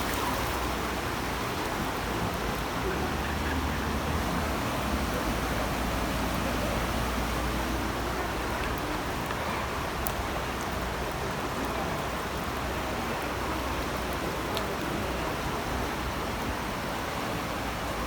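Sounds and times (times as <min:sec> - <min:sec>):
rushing water from heavy rain: 0:00.0 - 0:18.0.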